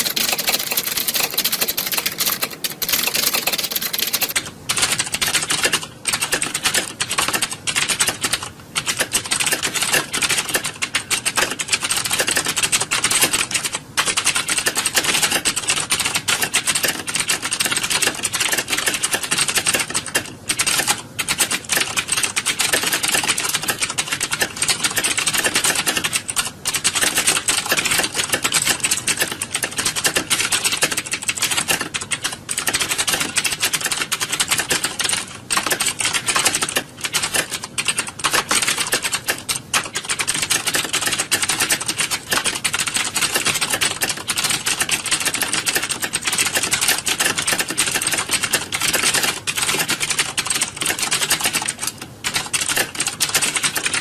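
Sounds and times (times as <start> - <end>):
many keyboards typing: 0.0 - 54.0.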